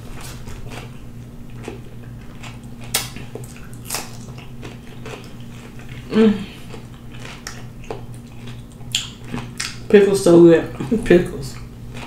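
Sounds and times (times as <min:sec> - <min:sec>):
chewing: 0:00.0 - 0:09.9, 0:10.7 - 0:12.0.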